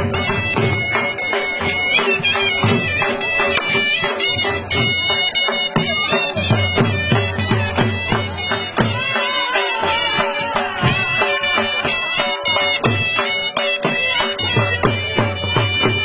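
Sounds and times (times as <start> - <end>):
dhol drumming: 0.0 - 16.0
reed pipe melody: 0.0 - 16.0.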